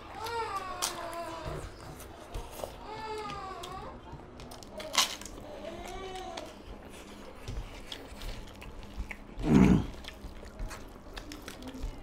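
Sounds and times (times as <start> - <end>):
chewing and biting food: 0.1 - 12.0.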